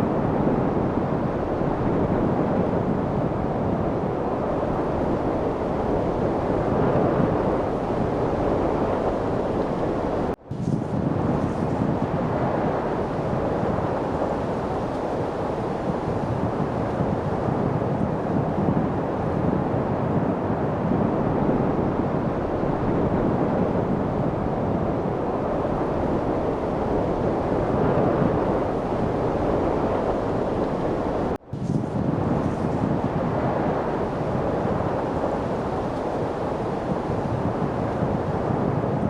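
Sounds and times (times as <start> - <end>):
steady light wind: 0.0 - 39.0.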